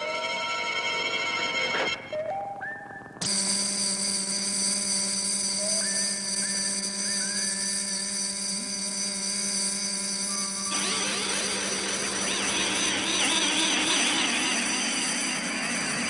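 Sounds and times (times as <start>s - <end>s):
electronic whirring drone: 0.0s - 16.0s
fluttering hum: 2.1s - 16.0s.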